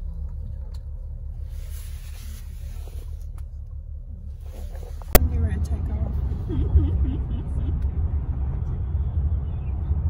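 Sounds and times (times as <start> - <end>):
car driving on road: 0.0 - 10.0.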